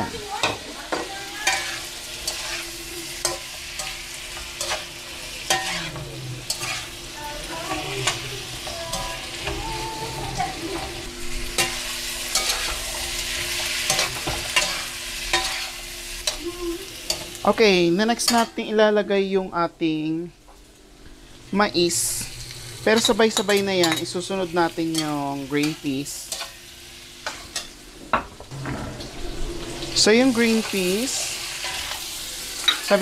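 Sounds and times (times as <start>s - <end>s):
vegetables sizzling in pan: 0.0s - 33.0s.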